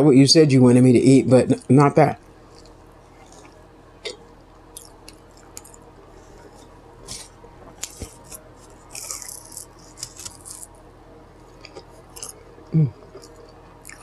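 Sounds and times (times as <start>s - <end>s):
chewing food: 2.4s - 14.0s.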